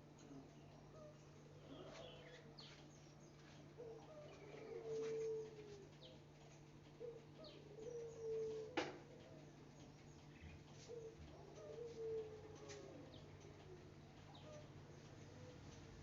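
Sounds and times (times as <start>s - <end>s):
dove cooing: 0.0s - 2.8s, 3.4s - 16.0s
small birds chirping: 0.0s - 16.0s.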